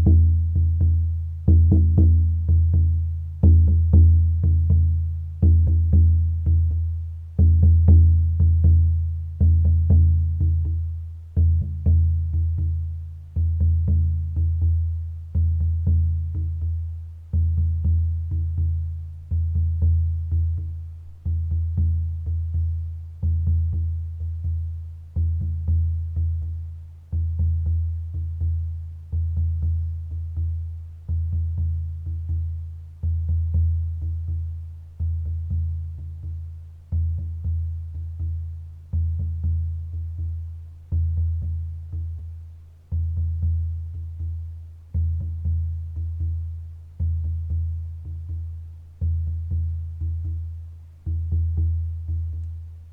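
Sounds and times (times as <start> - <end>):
deep drum beats: 0.0 - 52.9.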